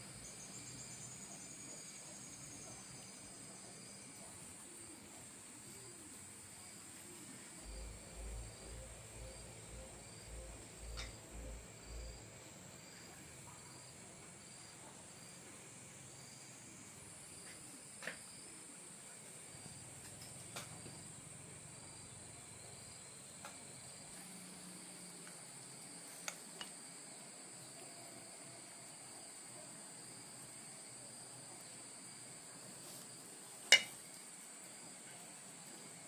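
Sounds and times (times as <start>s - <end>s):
cricket chirp: 0.0s - 36.0s
crickets trilling: 0.0s - 36.0s.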